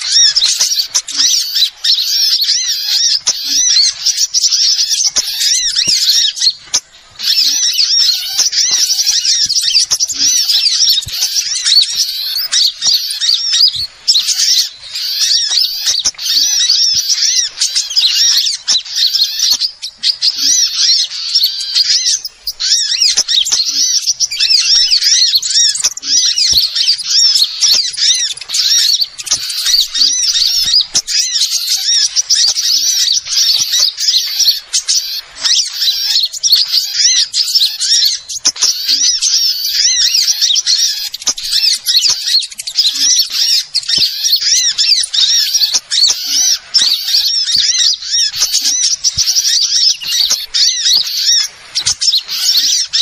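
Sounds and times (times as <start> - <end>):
small birds chattering: 0.0 - 53.0.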